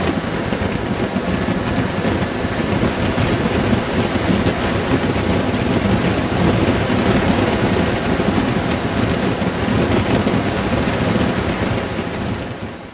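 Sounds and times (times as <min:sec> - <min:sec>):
wind rushing over microphone: 0:00.0 - 0:12.9.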